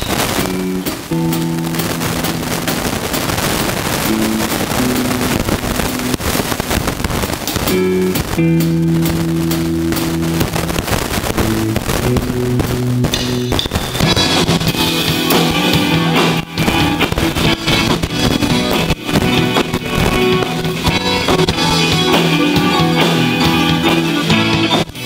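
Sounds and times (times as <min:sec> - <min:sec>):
drums keeping steady beat: 0:00.0 - 0:25.0
rock band playing: 0:00.0 - 0:25.0.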